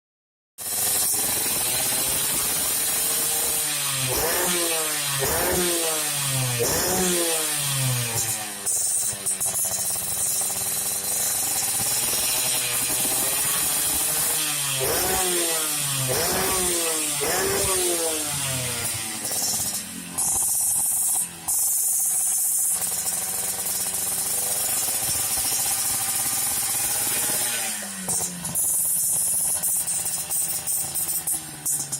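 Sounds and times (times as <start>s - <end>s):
motorcycle engine revving: 0.6s - 31.9s.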